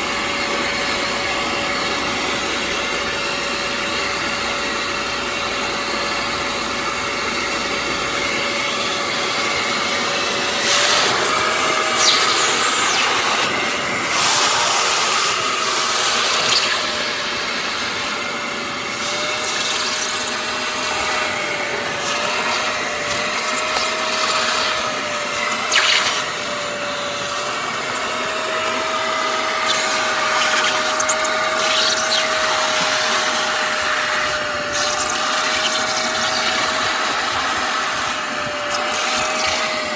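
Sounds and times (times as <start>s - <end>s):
spot cleaner motor humming: 0.0s - 39.9s.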